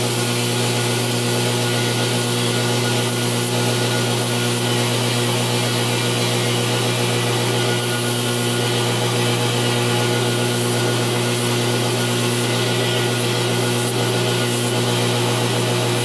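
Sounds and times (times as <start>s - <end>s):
belt grinder running: 0.0s - 16.0s.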